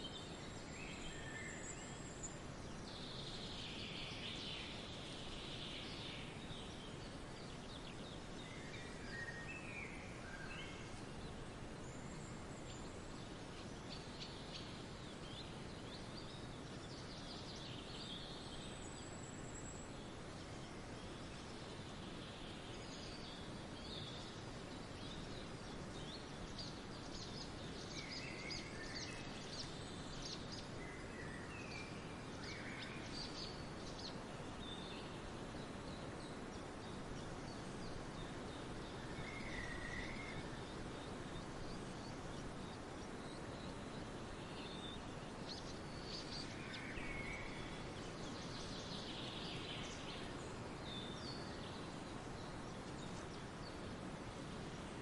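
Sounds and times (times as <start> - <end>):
songbirds chirping and trilling: 0.0 - 55.0
steady forest hiss: 0.0 - 55.0.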